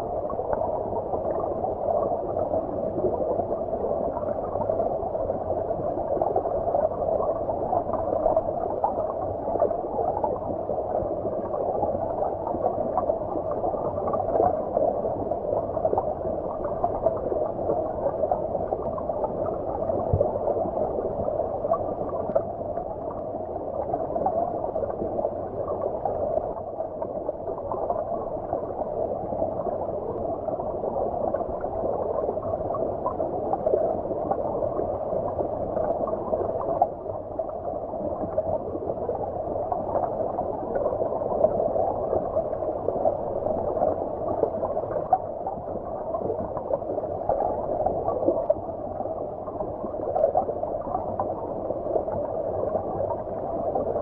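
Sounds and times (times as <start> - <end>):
muffled underwater stream gurgle: 0.0 - 54.0.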